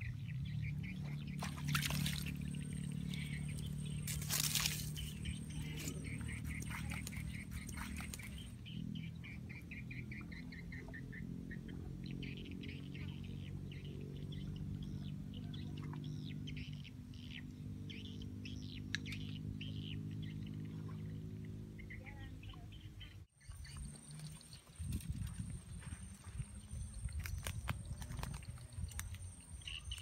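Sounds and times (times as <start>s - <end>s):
small birds chirping: 0.0s - 21.2s, 21.8s - 30.0s.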